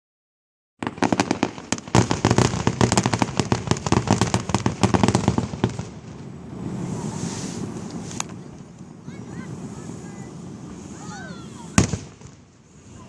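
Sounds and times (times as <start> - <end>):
fireworks crackling: 0.8 - 13.0.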